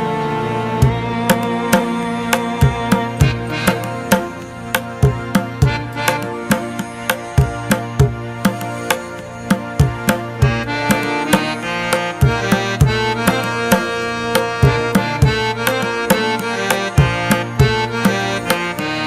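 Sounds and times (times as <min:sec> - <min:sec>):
sustained melody: 0:00.0 - 0:19.0
drum beat: 0:00.8 - 0:18.3.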